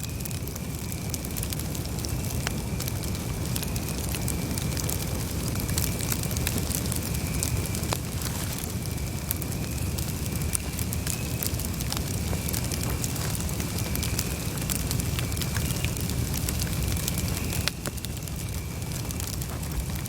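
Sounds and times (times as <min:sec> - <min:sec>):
burning wood crackling and popping: 0:00.0 - 0:20.0
campfire flames rumbling: 0:00.0 - 0:20.0.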